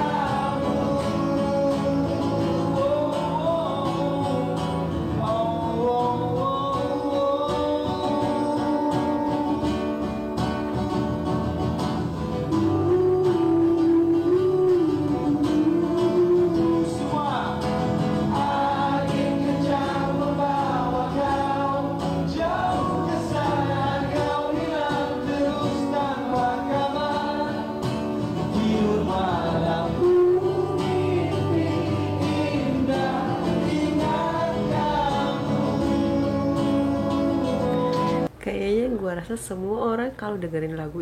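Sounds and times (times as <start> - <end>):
man singing: 0.0 - 10.5, 12.3 - 38.3
acoustic guitar: 0.0 - 41.0.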